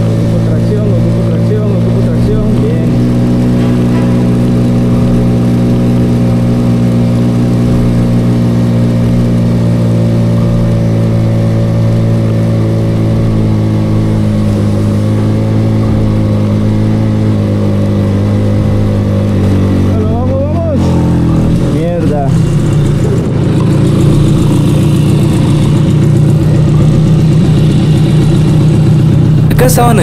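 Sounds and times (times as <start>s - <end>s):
scooter engine revving high: 0.0s - 30.0s.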